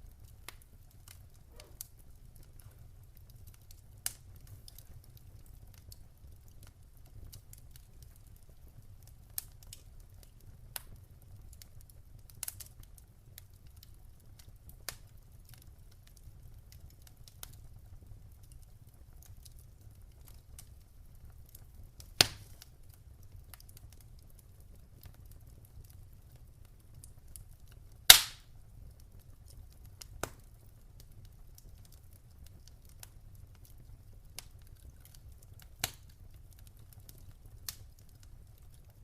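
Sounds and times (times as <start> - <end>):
fire crackling: 0.0 - 39.0.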